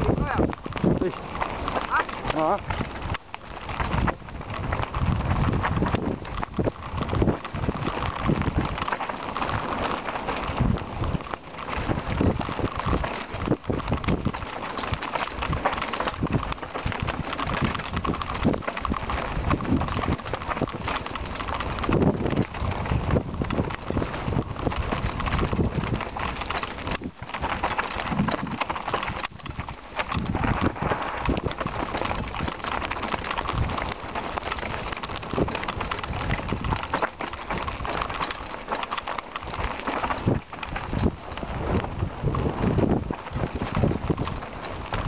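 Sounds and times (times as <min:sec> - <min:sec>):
wind on microphone: 0:00.0 - 0:38.8, 0:39.4 - 0:45.0
bike rattling: 0:00.0 - 0:45.0
tyres crunching over stones: 0:00.0 - 0:45.0.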